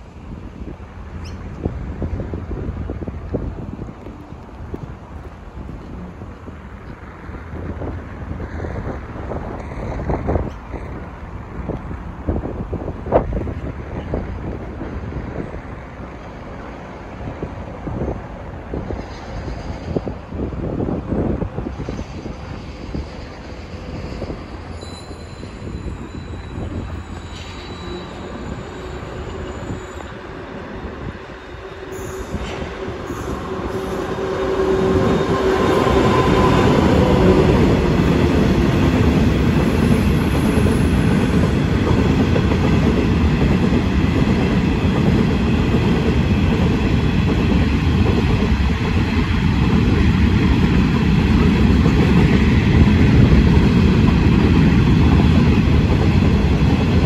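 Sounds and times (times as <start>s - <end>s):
diesel locomotive engine: 0.0s - 57.0s
freight wagons rumbling on rails: 0.0s - 57.0s.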